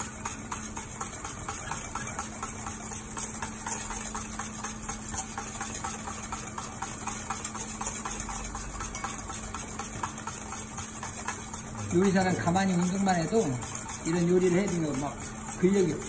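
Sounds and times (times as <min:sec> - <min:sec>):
whisk ticking in metal bowl: 0:00.0 - 0:16.0.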